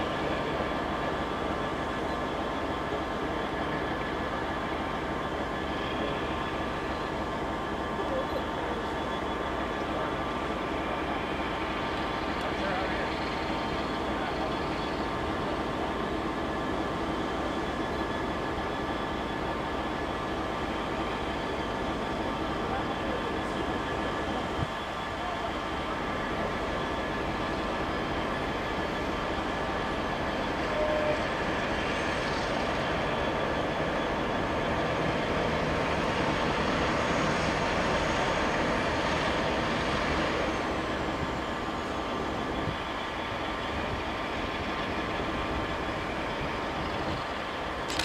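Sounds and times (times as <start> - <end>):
diesel locomotive engine running: 0.0 - 48.0
wheels rumbling on rail: 0.0 - 48.0.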